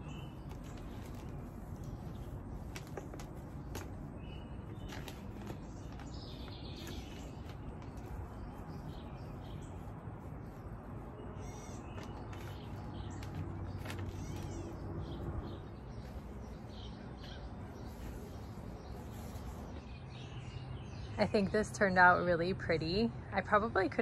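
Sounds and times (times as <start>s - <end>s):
potting soil rustling: 0.0s - 21.3s
birds calling: 0.0s - 21.8s
low outdoor rumble: 0.0s - 24.0s.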